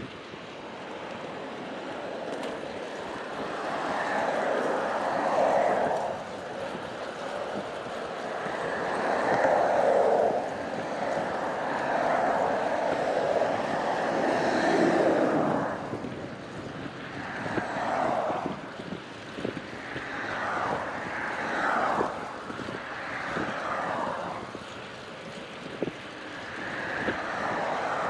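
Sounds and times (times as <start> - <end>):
vehicles passing: 0.0 - 28.0
wind noise on microphone: 0.0 - 28.0.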